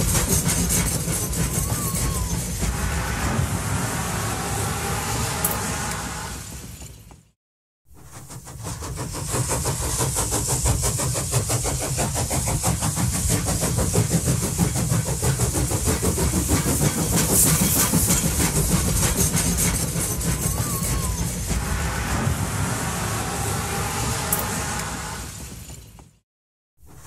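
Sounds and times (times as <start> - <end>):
train wheels rumbling on track: 0.0 - 7.2, 7.9 - 26.2.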